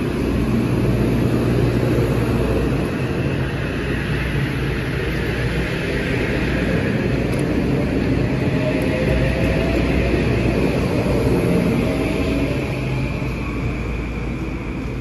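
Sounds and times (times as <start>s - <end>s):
faint train whine: 0.0s - 15.0s
train wheels rumbling on rail: 0.0s - 15.0s.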